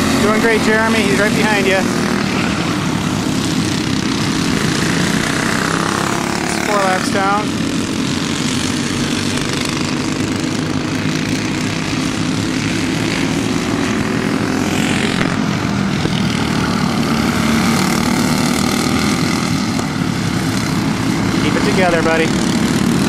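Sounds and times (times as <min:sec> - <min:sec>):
go-kart engines buzzing: 0:00.0 - 0:23.0.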